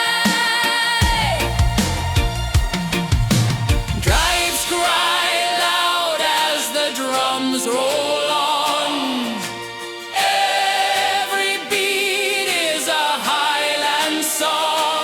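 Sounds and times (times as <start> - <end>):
dub reggae music: 0.0 - 15.0.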